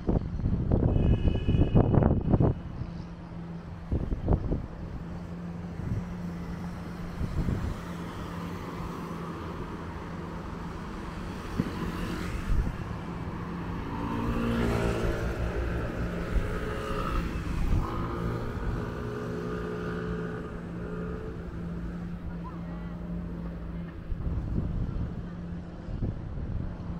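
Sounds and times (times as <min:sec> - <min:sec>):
traffic engine hum: 0:00.0 - 0:26.9
motor vehicle passing by: 0:03.2 - 0:26.9.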